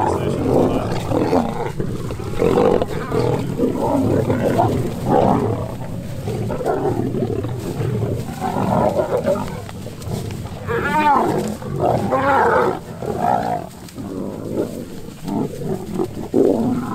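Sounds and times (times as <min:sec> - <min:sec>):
lions growling and snarling: 0:00.0 - 0:16.9.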